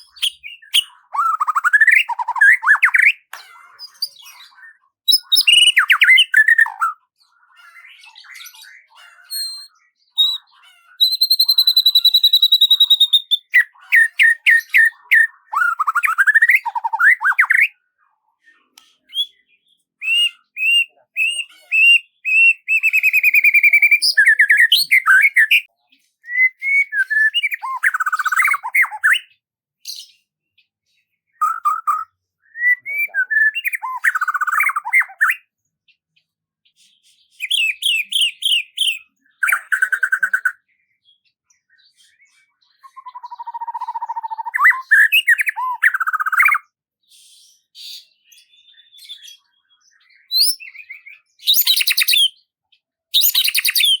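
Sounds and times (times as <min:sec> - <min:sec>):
songbird singing: 0:00.0 - 0:17.9, 0:18.5 - 0:36.3, 0:37.3 - 0:46.8, 0:47.6 - 0:54.0.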